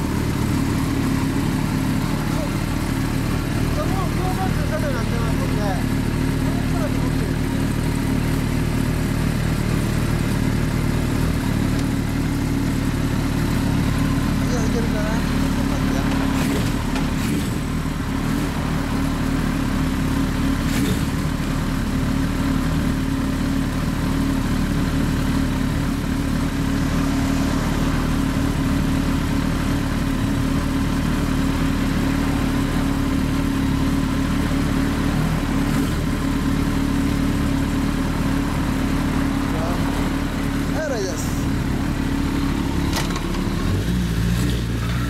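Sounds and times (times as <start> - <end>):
motorcycle engine idling: 0.0 - 45.0.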